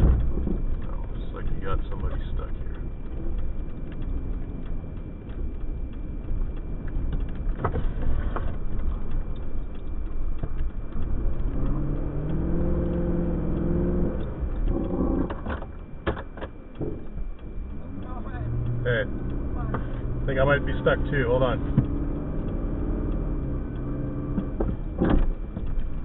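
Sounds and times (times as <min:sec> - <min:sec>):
car engine rumbling and revving: 0:00.0 - 0:26.0
wind: 0:00.0 - 0:26.0.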